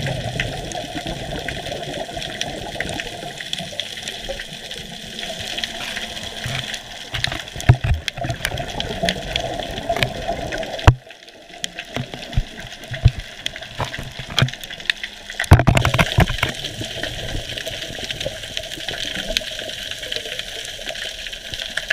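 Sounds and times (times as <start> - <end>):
gurgling bubble bursts: 0.0 - 21.4
underwater crackle of clicks: 0.0 - 21.9.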